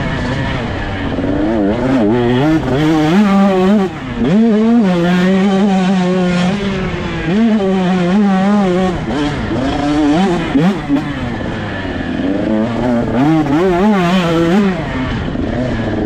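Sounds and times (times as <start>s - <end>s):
two-stroke engine revving hard: 0.0s - 16.0s.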